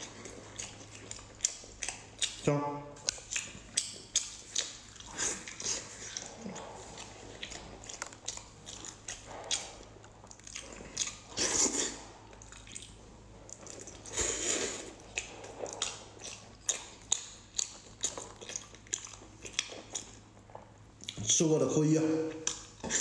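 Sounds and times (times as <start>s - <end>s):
wet chewing: 0.0s - 21.4s, 22.3s - 23.0s.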